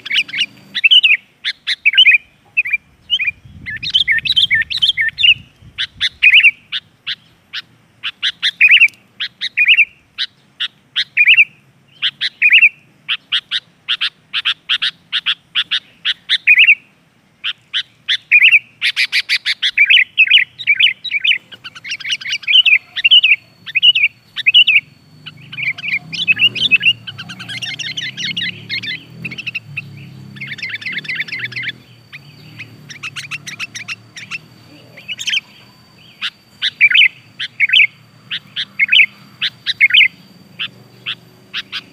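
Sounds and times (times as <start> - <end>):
faint high whine: 0.0 - 10.2, 16.8 - 41.9
birds chirping and whistling: 0.0 - 41.9.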